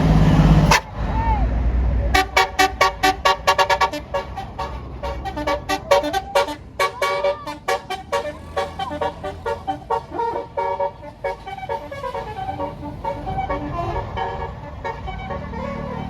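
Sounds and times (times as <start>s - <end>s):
bus engine running: 0.0s - 16.0s
musical air horn playing tune: 2.2s - 16.0s.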